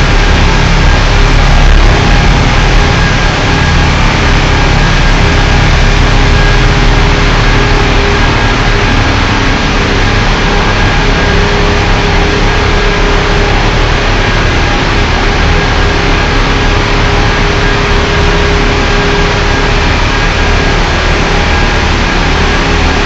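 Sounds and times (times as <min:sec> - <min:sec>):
heavy engine droning: 0:00.0 - 0:23.0.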